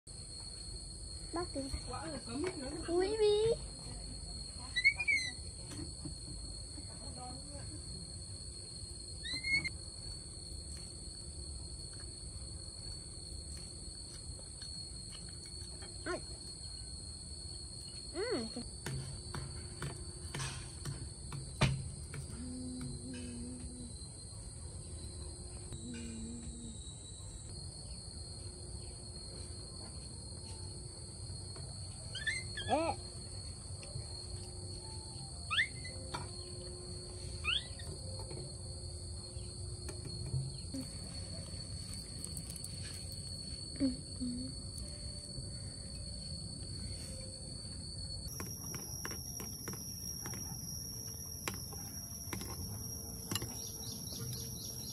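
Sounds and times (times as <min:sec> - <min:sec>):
high insect whine: 0:00.1 - 0:54.9.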